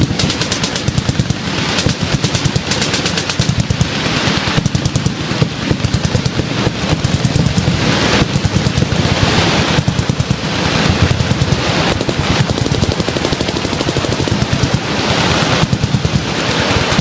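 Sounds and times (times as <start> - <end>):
machine guns firing: 0.0 - 17.0.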